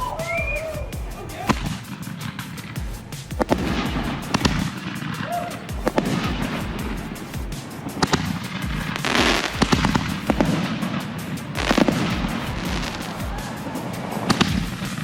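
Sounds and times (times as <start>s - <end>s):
background music: 0.0s - 15.0s
fireworks bangs: 0.0s - 15.0s.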